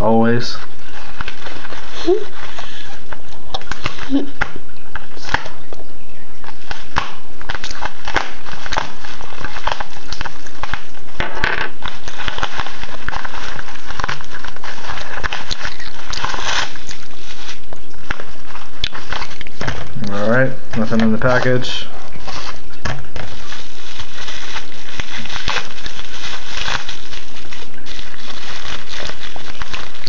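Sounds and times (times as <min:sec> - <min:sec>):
bubble wrap handled: 0:00.0 - 0:05.8, 0:06.4 - 0:30.0.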